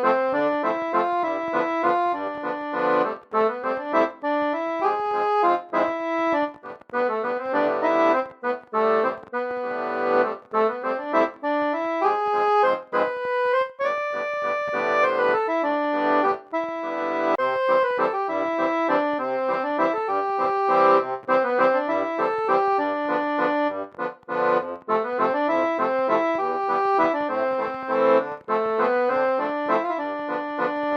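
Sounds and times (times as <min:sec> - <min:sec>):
instrumental music with reedy chords: 0:00.0 - 0:30.9.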